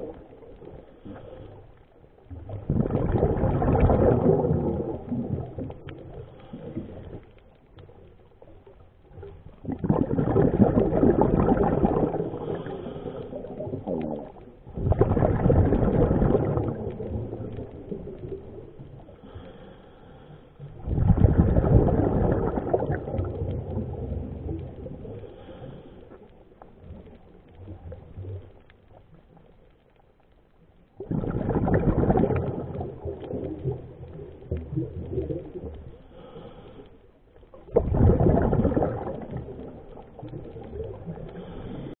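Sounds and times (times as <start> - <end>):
underwater exhaled bubbles: 0.0 - 42.0.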